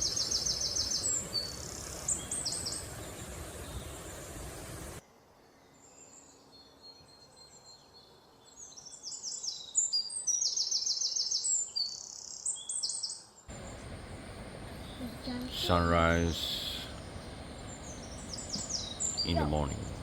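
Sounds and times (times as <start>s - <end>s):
birds chirping: 0.0s - 5.0s, 8.5s - 20.0s
steady outdoor noise: 0.0s - 20.0s.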